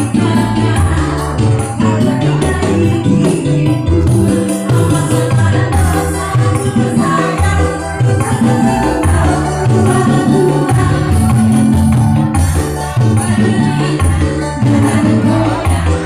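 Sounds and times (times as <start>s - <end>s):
keyboard backing with bass: 0.0s - 16.0s
woman singing into microphone: 0.0s - 16.0s.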